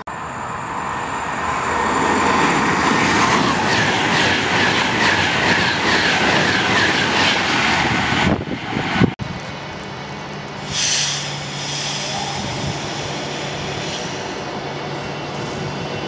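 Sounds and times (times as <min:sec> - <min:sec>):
train rumble and hiss: 0:00.1 - 0:16.0.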